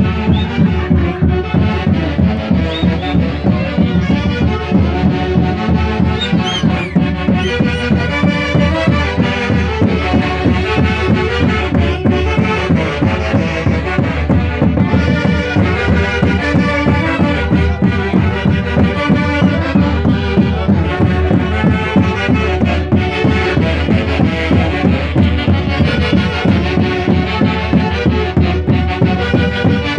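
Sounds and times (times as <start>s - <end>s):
lively band playing: 0.0s - 29.9s.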